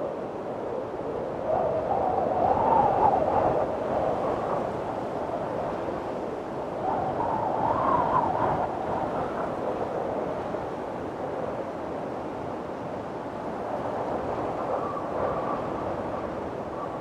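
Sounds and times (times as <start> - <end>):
strong gusty wind: 0.0 - 17.0
wind whistling howl: 0.0 - 17.0.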